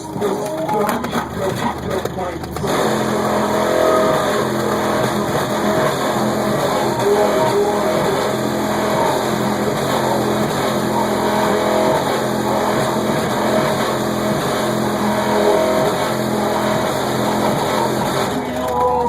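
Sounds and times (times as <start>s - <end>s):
bass-heavy rap through car stereo: 0.0s - 19.0s.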